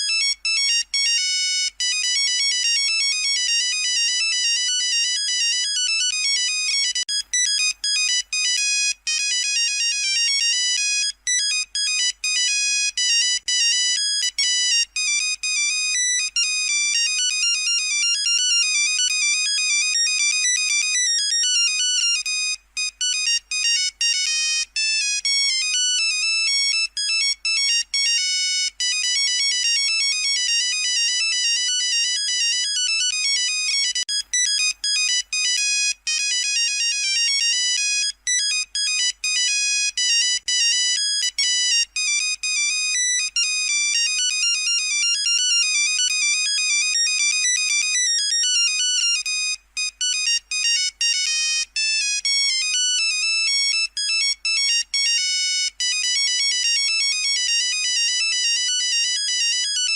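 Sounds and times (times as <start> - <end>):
monophonic phone ringtone: 0.0 - 59.9.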